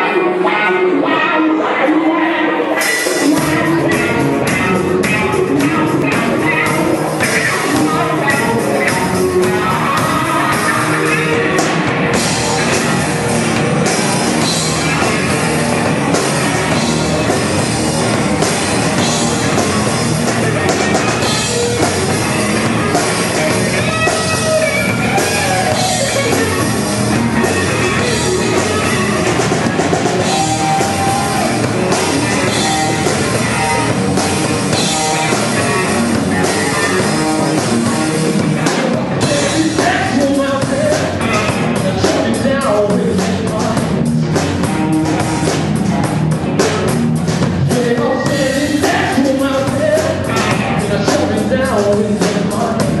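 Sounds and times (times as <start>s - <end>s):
electric guitar: 0.0s - 53.0s
live rock band playing: 0.0s - 53.0s.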